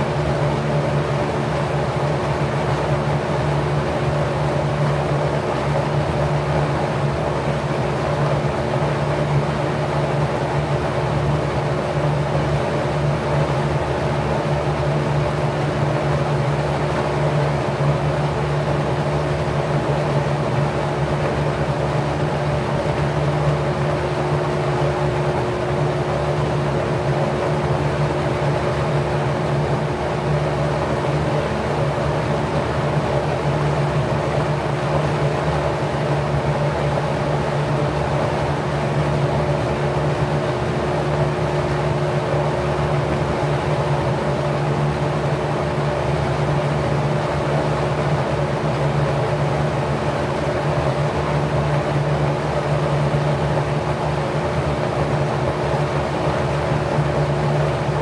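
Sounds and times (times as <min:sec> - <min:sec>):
fan blades rushing air: 0:00.0 - 0:58.0.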